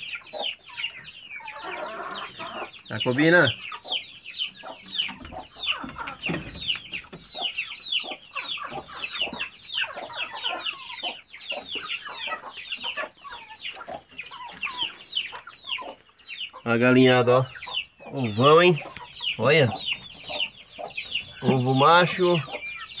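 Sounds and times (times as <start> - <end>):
chicks peeping: 0.0 - 23.0
hens clucking: 0.0 - 23.0.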